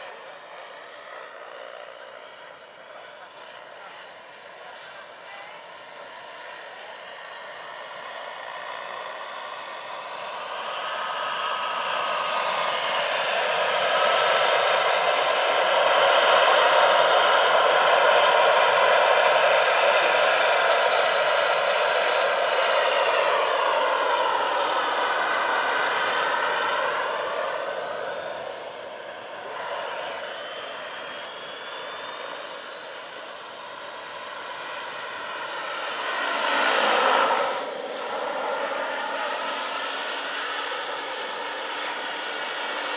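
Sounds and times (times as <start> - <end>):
helicopter rotors: 0.0 - 42.9
turbine whine: 0.0 - 42.9.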